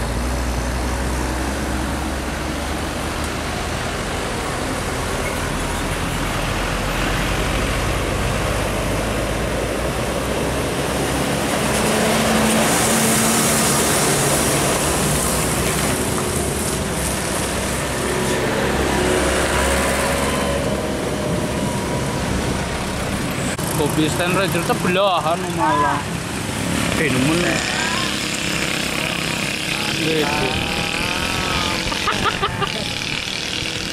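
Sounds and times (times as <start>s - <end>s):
road traffic: 0.0s - 33.9s
truck diesel engine labouring: 0.0s - 33.9s.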